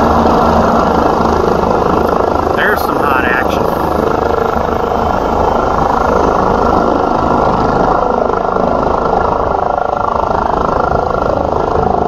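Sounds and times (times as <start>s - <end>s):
helicopter engines and rotor: 0.0s - 12.0s.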